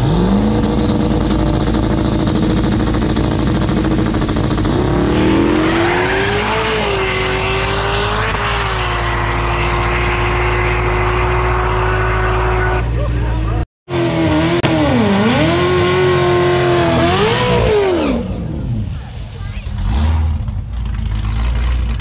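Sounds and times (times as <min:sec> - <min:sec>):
drag race cars accelerating: 0:00.0 - 0:22.0.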